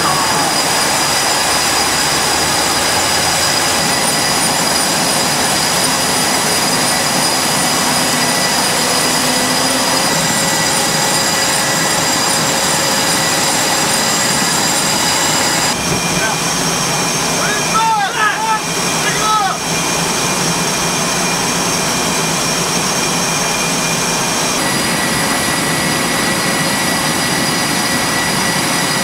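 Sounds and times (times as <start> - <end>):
high jet engine whine: 0.0 - 29.0
jet engines roaring: 0.0 - 29.0.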